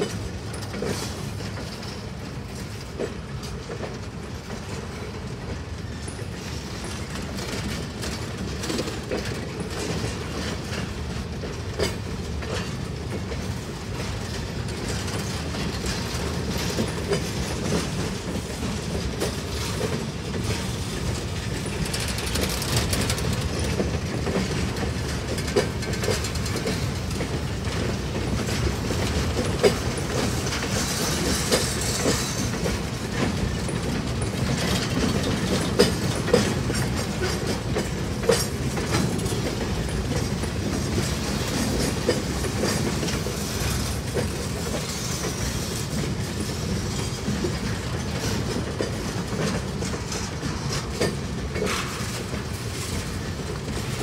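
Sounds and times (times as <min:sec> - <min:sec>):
freight train rumbling: 0:00.0 - 0:54.0
train wheels clicking and clanking: 0:00.0 - 0:54.0.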